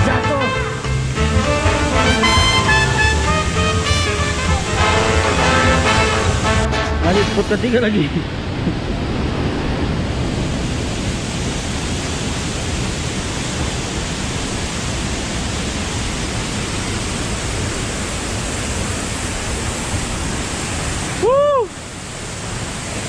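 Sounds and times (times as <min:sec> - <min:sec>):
small waterfall rushing: 0:00.0 - 0:23.0.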